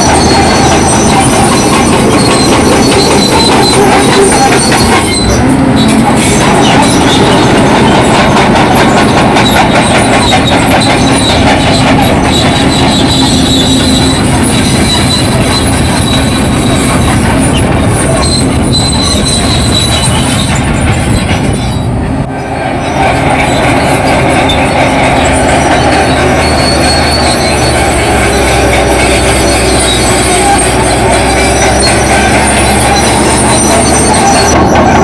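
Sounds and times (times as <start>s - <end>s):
diesel engine under load: 0.0s - 35.0s
steel tracks clanking and squealing: 0.0s - 35.0s.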